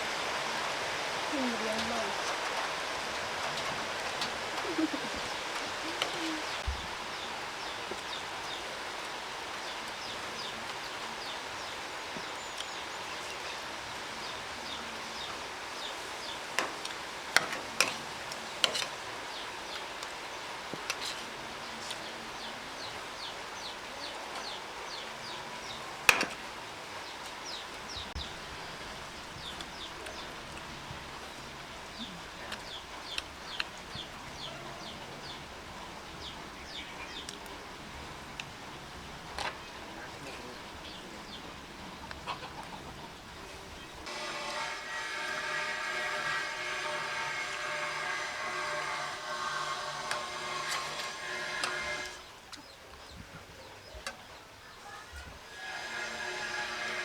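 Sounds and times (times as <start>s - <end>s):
small birds chirping: 1.3s - 44.1s, 52.2s - 56.1s.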